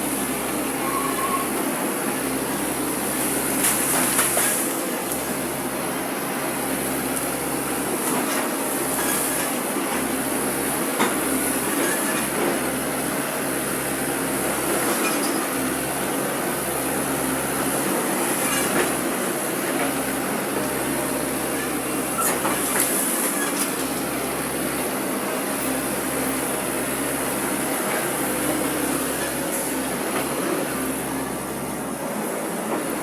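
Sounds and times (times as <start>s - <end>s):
excavator engine and hydraulics: 0.0s - 33.0s.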